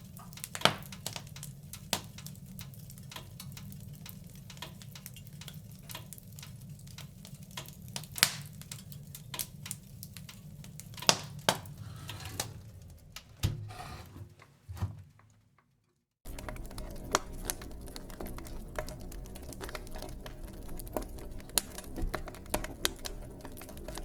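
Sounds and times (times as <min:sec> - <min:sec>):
wood fire crackling: 0:00.0 - 0:13.4, 0:16.2 - 0:24.0.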